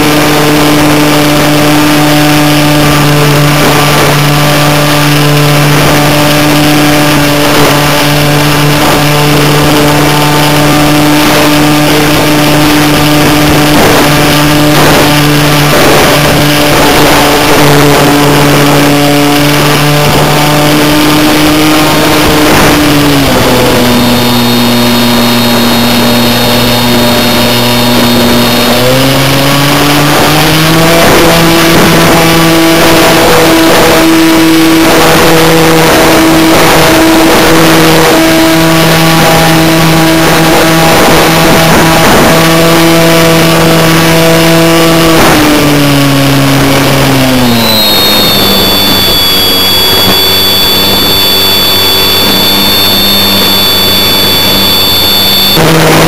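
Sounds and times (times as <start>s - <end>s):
model plane motor and propeller: 0.0s - 56.0s.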